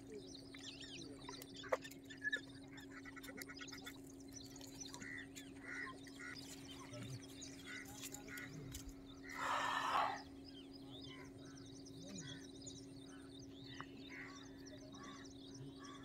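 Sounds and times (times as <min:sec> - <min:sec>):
small birds chirping: 0:00.0 - 0:16.0
steady low hum: 0:00.0 - 0:16.0
bird trill: 0:00.1 - 0:16.0.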